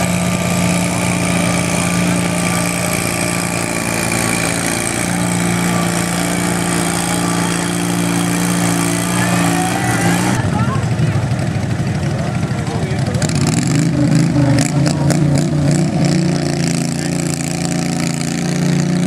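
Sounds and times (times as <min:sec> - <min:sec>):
tractor engine under load: 0:00.0 - 0:19.0.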